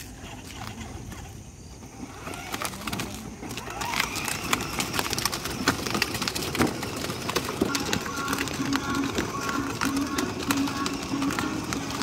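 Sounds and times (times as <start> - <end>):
toy car wheels crunching over gravel: 0.0 - 12.0.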